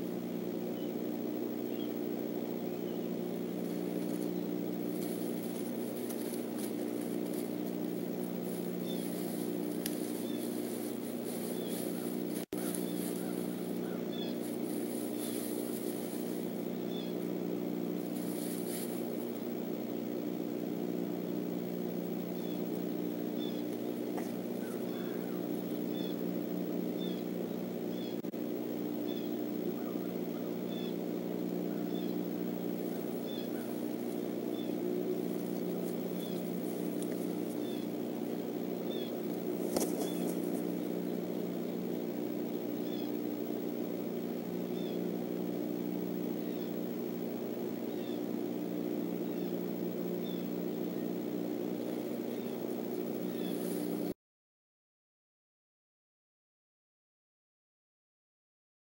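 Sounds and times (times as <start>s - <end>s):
low multi-tone hum: 0.0s - 54.2s.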